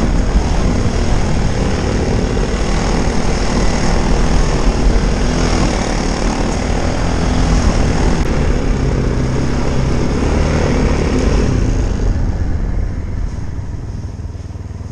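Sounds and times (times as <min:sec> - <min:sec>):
quad bike engine running: 0:00.0 - 0:14.9.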